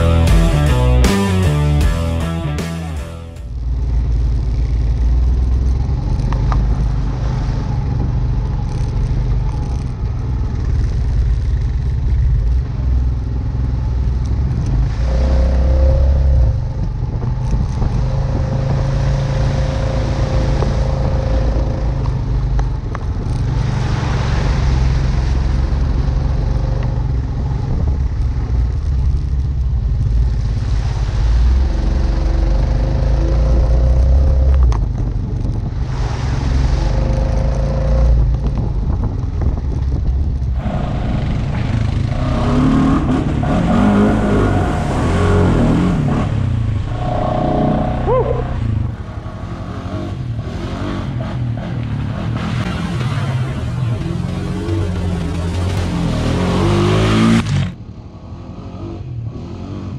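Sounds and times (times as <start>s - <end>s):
quad bike engine running: 0.0s - 23.8s, 24.4s - 35.8s, 36.5s - 59.8s.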